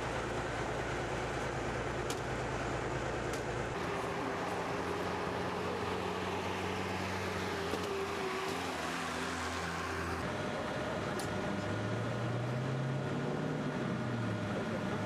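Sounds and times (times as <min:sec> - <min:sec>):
vehicle engines humming: 0:00.0 - 0:15.0.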